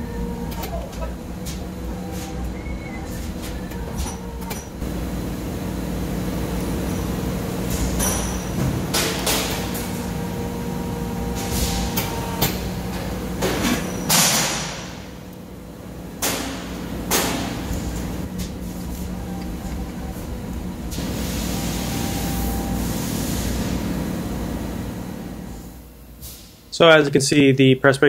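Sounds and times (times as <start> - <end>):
press brake humming: 0.0 - 26.4.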